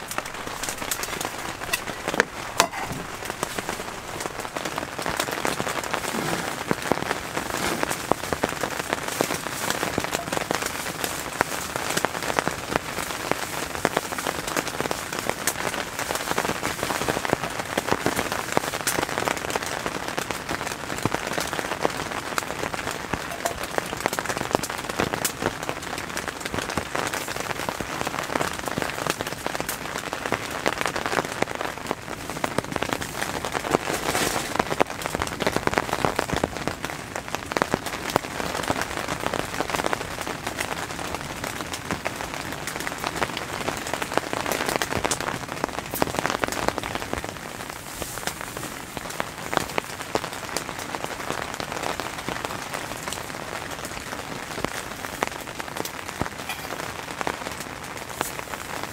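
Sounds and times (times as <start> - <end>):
rain pattering on tent fabric: 0.0 - 58.9.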